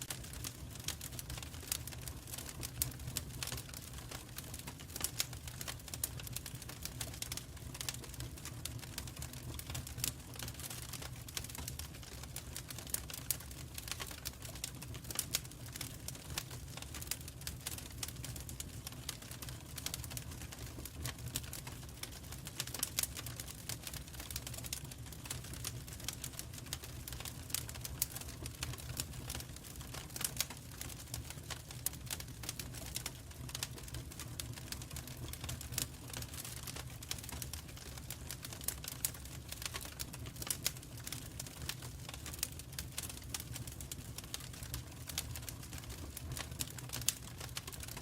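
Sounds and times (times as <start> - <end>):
fire crackling and popping: 0.0 - 48.0.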